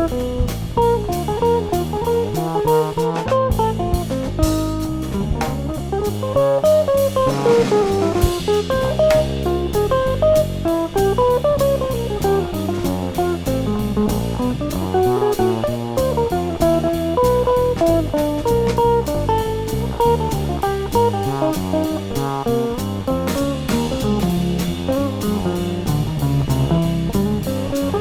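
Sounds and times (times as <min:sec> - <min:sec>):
bass: 0:00.0 - 0:28.0
jazz guitar: 0:00.0 - 0:28.0.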